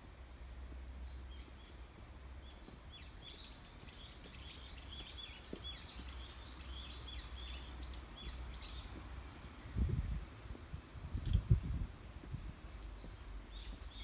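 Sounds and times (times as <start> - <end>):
songbirds chirping: 0.0 - 11.5, 12.6 - 14.0.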